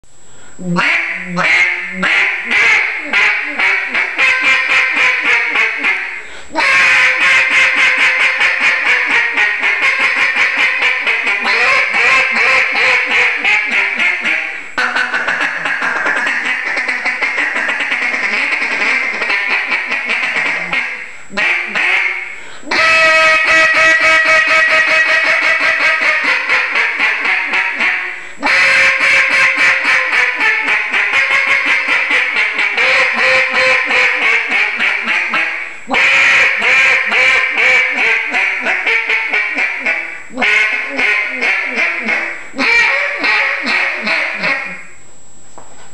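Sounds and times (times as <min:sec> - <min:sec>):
duck call quacks: 0:00.6 - 0:44.9.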